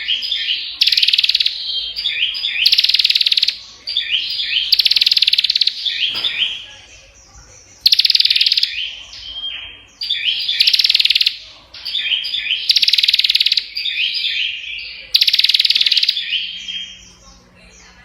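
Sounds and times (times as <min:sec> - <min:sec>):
bird ticking trills: 0:00.0 - 0:17.5
bird chattering notes: 0:00.0 - 0:18.0.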